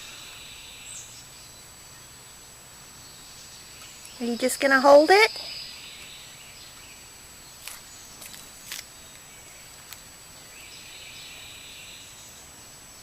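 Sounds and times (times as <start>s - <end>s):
steady insect noise: 0.0s - 13.0s.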